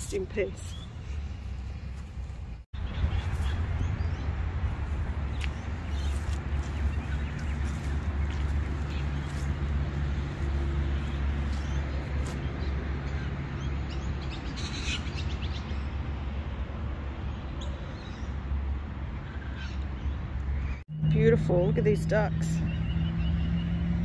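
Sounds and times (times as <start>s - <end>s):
birds calling: 0.0s - 4.3s, 5.1s - 16.0s, 19.2s - 24.0s.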